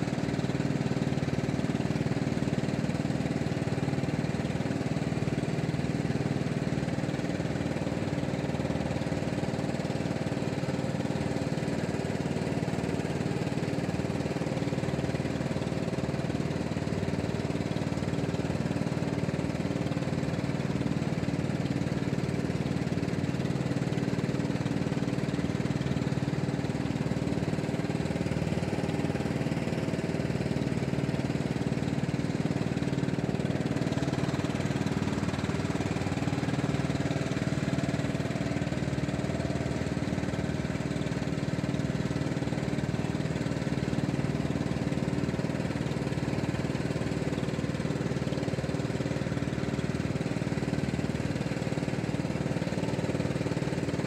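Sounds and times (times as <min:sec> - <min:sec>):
boat engine running steadily: 0:00.0 - 0:54.0.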